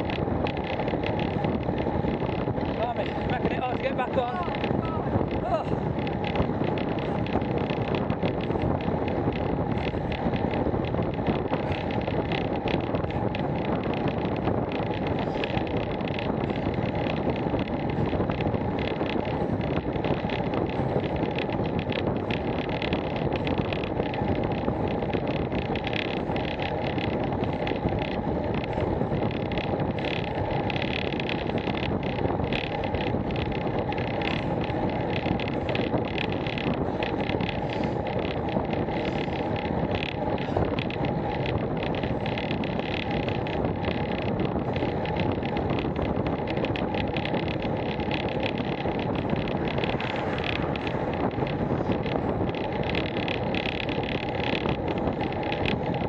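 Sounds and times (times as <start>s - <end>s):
tyre noise on tarmac: 0.0s - 56.0s
wind rush on microphone: 0.0s - 56.0s.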